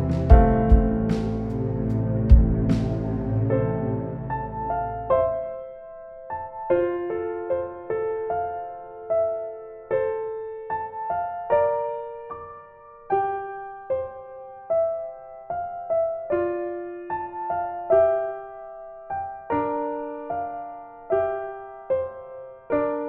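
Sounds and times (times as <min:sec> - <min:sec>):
gentle solo piano melody: 0:00.0 - 0:02.8, 0:04.3 - 0:23.0.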